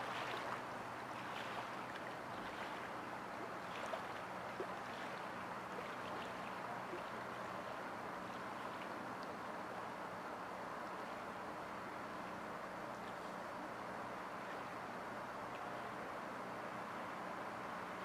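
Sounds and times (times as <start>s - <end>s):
faint low hum: 0.0s - 18.0s
small waves lapping at shore: 0.0s - 18.0s.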